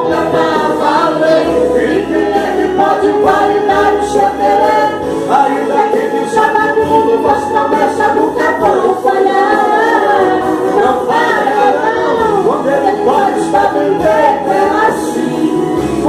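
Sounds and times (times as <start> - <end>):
group singing gospel song: 0.0 - 16.0.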